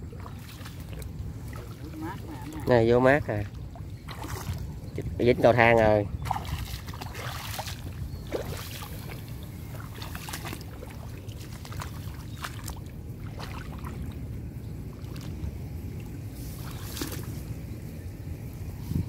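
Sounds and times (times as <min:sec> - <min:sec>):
feet splashing through water: 0:00.0 - 0:04.9, 0:06.1 - 0:17.6
steady low rumble: 0:00.0 - 0:19.0.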